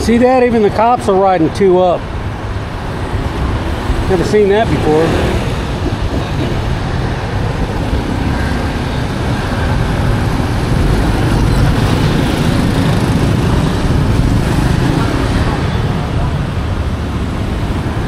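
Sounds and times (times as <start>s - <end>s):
trucks and motorbikes driving past: 0.0s - 18.0s.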